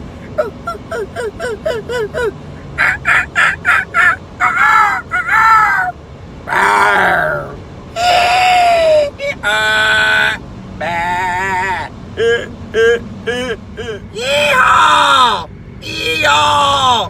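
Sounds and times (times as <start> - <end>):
man imitating poultry calls: 0.3 - 17.0.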